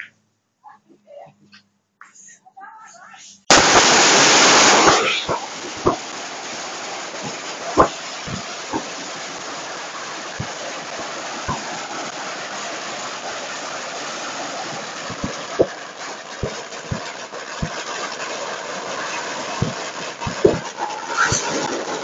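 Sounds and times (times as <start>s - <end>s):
firecracker bangs: 3.5s - 22.0s
firecracker string crackling: 3.5s - 22.0s.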